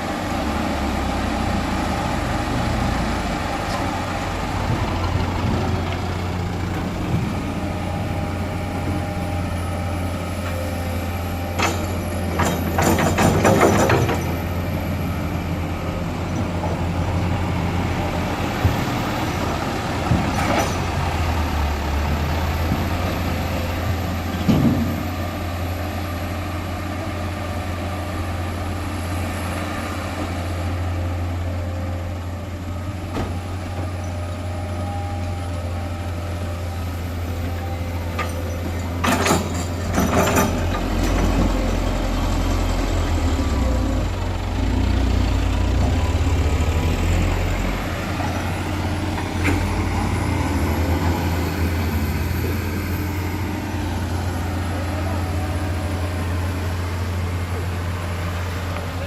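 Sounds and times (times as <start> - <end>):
diesel machinery droning: 0.0 - 59.0.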